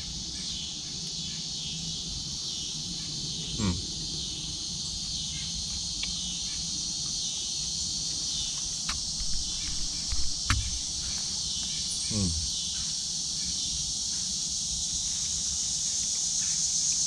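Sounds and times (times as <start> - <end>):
crickets and insects chirping: 0.0 - 17.0.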